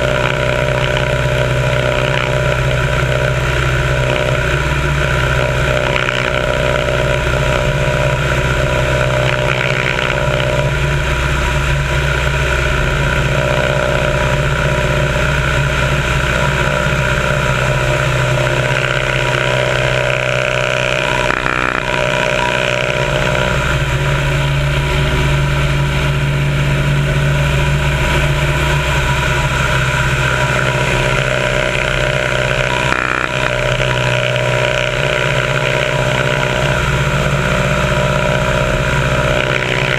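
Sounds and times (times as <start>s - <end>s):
propeller plane engine in flight: 0.0s - 39.9s.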